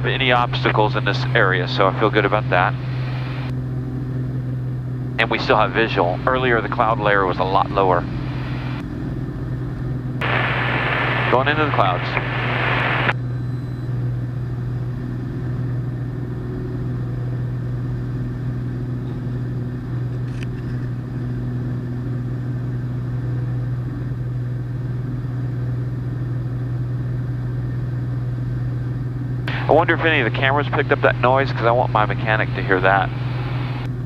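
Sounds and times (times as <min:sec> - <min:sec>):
propeller plane engine droning: 0:00.0 - 0:34.0.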